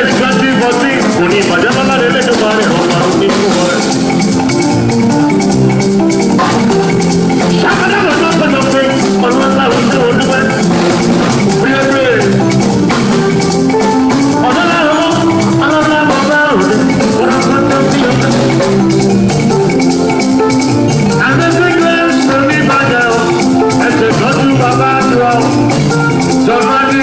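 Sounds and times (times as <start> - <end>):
live band playing upbeat music: 0.0 - 27.0.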